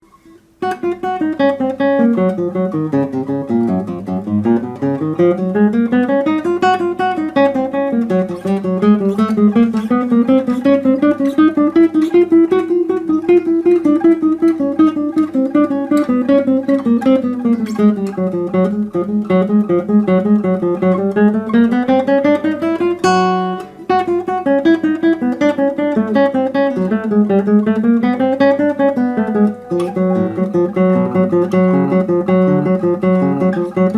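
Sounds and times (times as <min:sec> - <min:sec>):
solo classical guitar: 0:00.0 - 0:33.9.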